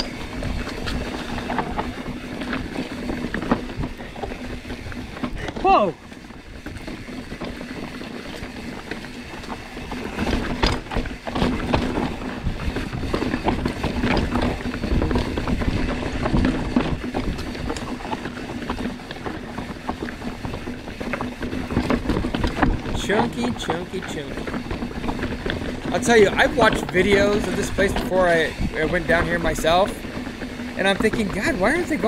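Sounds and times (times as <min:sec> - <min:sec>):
bike rattling: 0:00.0 - 0:32.0
bike tyres rumbling over rocks: 0:00.0 - 0:32.0.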